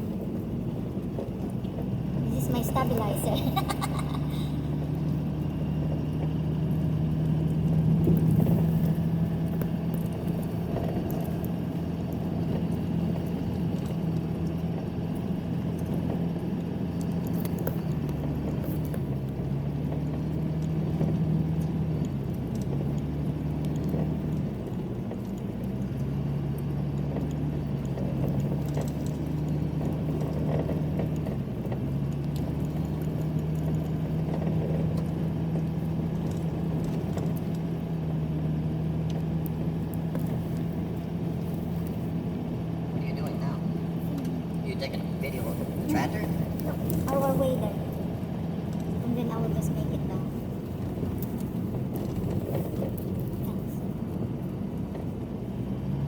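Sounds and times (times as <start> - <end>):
rumbling road noise: 0.0 - 56.0
vehicle engine humming: 0.0 - 56.0.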